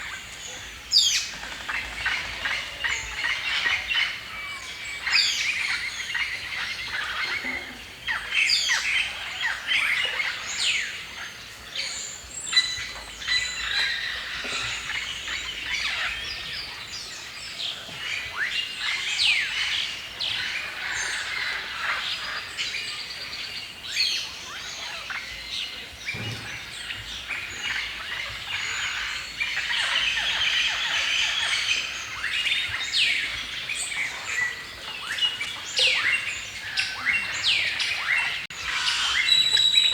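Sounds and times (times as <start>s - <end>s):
songbirds dawn chorus: 0.0s - 39.9s.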